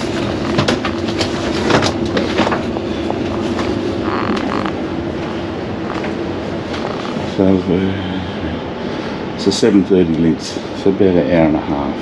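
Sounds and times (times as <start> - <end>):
train carriage hum: 0.0 - 12.0.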